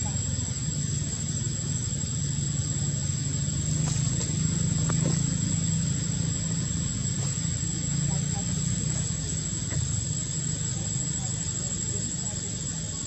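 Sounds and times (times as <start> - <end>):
high-pitched whine: 0.0 - 13.0
low engine-like drone: 0.0 - 13.0.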